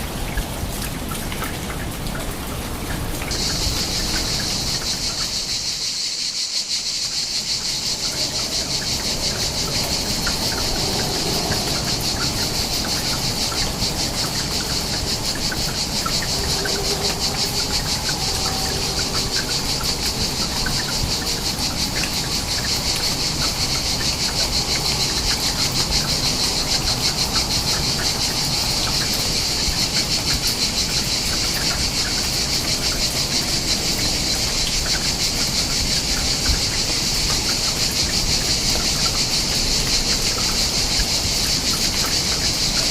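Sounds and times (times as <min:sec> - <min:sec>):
crickets trilling: 0:00.0 - 0:42.9.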